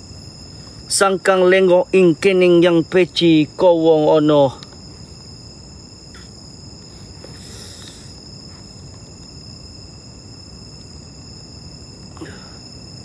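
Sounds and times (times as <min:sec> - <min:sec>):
crickets chirring: 0:00.0 - 0:13.0
low background hiss: 0:00.0 - 0:13.0.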